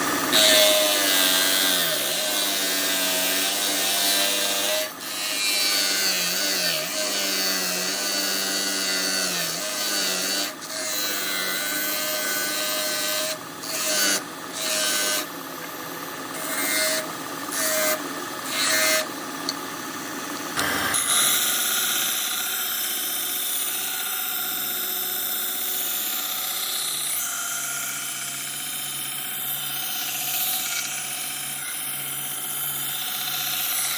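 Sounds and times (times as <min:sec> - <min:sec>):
bandsaw cutting wood: 0:00.0 - 0:19.2, 0:20.4 - 0:33.9
steady machine hum: 0:00.0 - 0:33.9.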